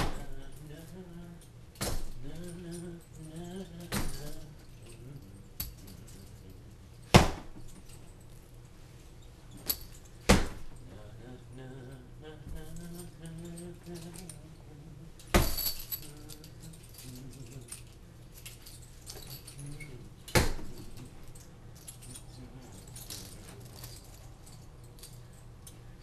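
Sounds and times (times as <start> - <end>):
metal chain rattling: 0.0 - 26.0.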